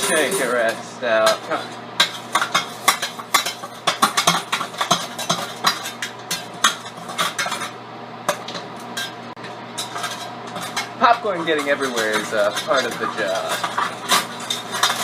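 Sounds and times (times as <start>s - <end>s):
popcorn rattling against metal: 0.0s - 15.0s.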